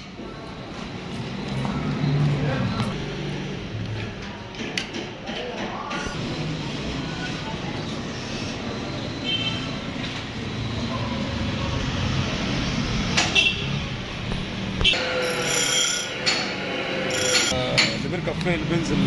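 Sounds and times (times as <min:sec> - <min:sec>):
workshop noise: 0:00.0 - 0:19.0.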